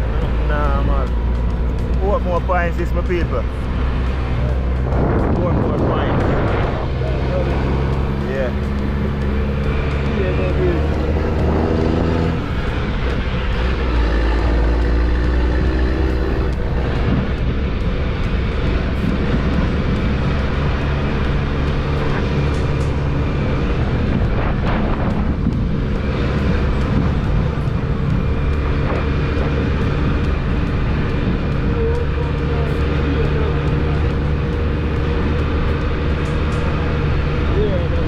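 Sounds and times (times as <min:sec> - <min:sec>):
road noise: 0:00.0 - 0:38.0
vehicle engine humming: 0:00.0 - 0:38.0.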